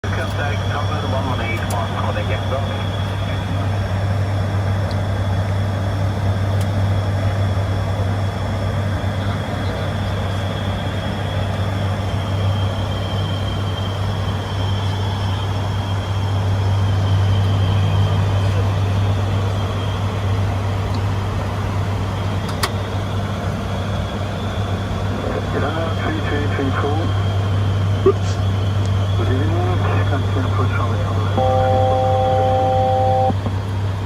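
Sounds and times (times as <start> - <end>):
turboprop engines droning: 0.0 - 34.0.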